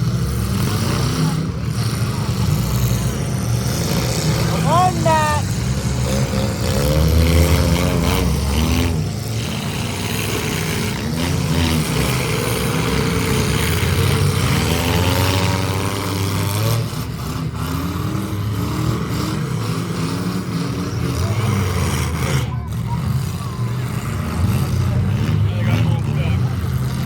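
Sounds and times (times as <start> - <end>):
vehicle engines revving: 0.0 - 27.0.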